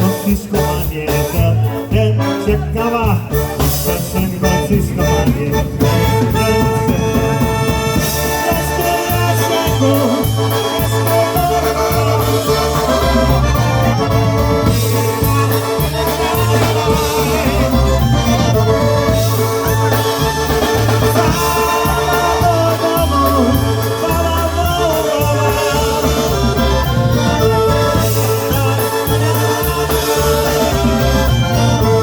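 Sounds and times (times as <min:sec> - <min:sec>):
accordion melody: 0:00.0 - 0:32.0
steady drum beat: 0:00.0 - 0:32.0
stepping bass line: 0:00.0 - 0:32.0.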